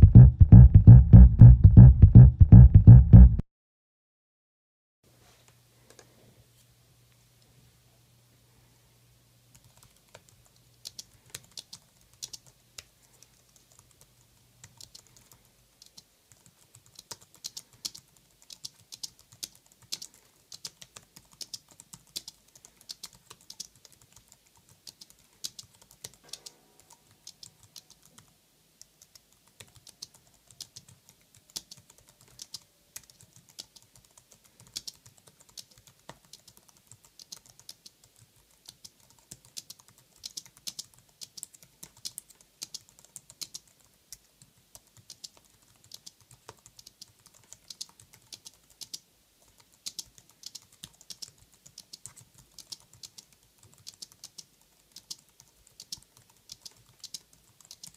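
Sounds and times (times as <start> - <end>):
soft keyboard typing clicks: 9.5 - 57.9.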